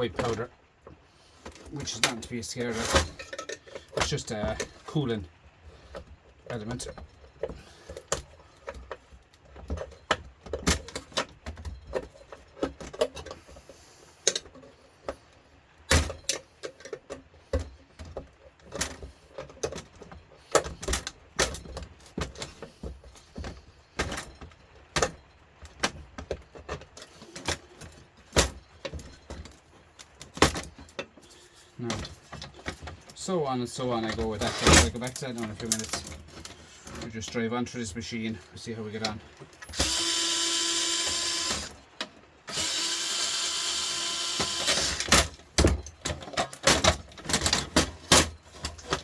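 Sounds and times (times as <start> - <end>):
scraping and handling noise: 0.0 - 49.0.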